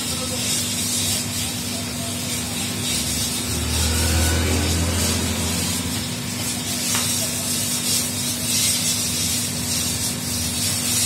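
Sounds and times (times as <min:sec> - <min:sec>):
flames burning with hiss: 0:00.0 - 0:11.0.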